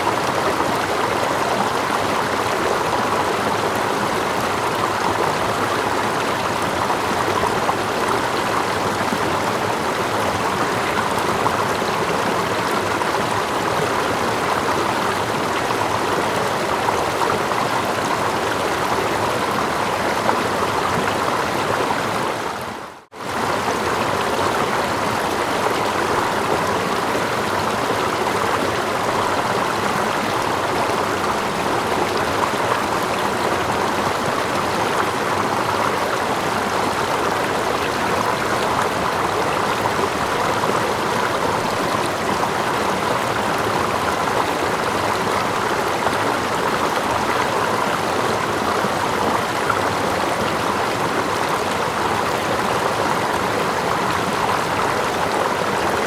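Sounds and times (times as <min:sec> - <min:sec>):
small distant waterfall: 0:00.0 - 0:56.0
stream running water: 0:00.0 - 0:56.0.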